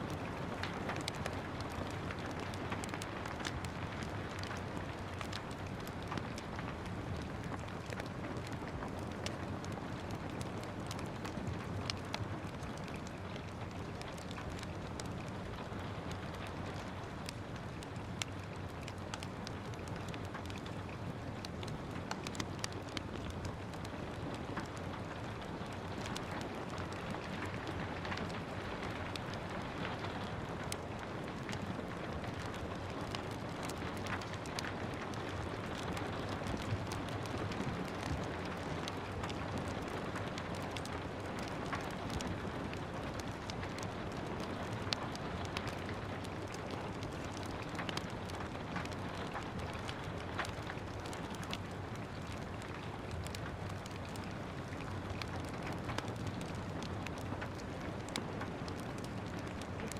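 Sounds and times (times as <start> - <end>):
steady rain falling: 0.0 - 59.9
wood fire crackling: 0.0 - 59.9.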